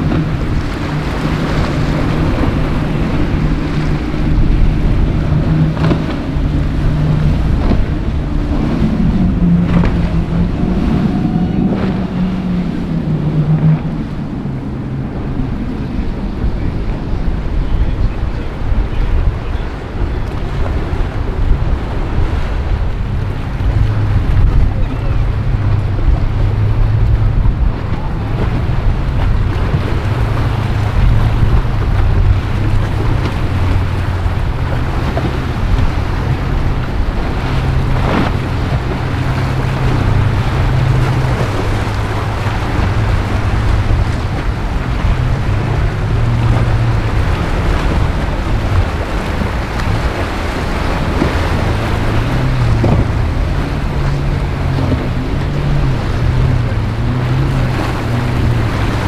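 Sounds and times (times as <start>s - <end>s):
outboard motors running: 0.0s - 59.0s
waves splashing: 0.0s - 59.0s
wind buffeting microphone: 0.0s - 59.0s.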